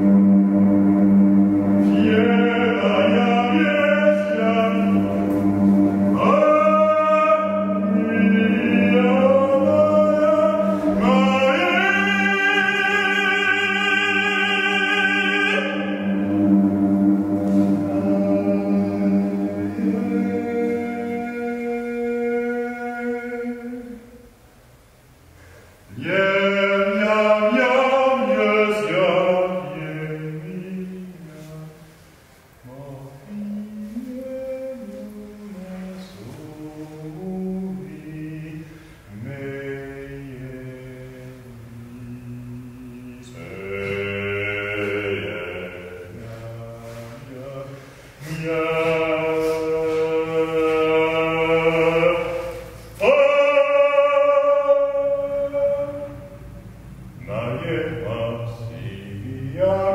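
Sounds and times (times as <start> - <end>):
man singing slow chant: 1.7 - 16.6, 17.5 - 24.2, 25.9 - 32.0, 32.6 - 59.9.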